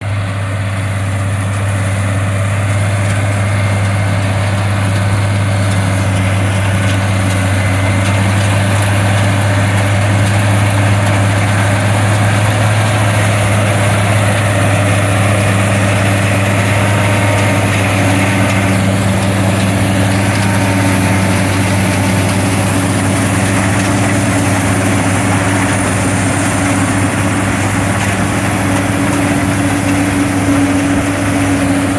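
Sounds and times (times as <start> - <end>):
combine machinery drone: 0.0 - 31.9
tractor engine under load: 0.0 - 31.9.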